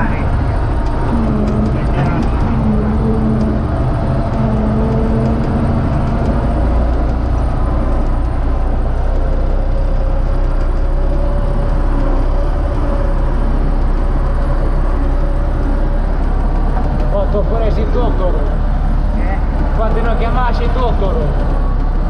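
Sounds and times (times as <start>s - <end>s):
diesel tractor engine droning: 0.0s - 22.0s.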